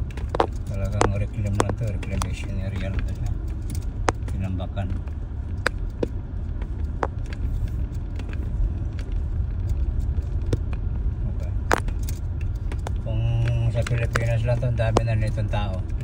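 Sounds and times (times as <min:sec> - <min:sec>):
sharp clicks and knocks: 0:00.0 - 0:11.0, 0:11.6 - 0:16.0
tyres and engine rumbling: 0:00.0 - 0:16.0.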